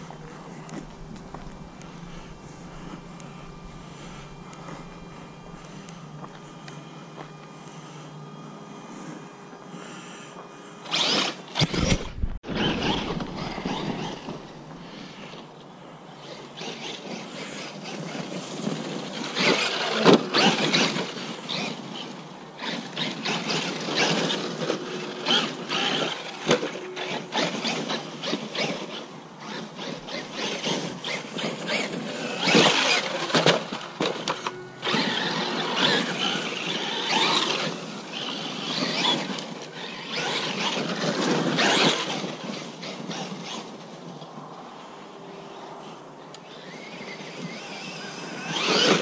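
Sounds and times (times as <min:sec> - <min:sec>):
toy truck motor: 0:00.0 - 0:15.4, 0:16.2 - 0:44.0, 0:46.3 - 0:49.0.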